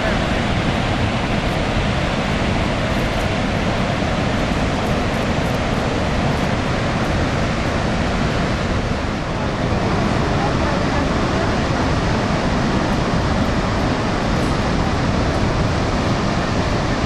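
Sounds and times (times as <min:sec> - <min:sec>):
loud rush of falling water: 0:00.0 - 0:17.0.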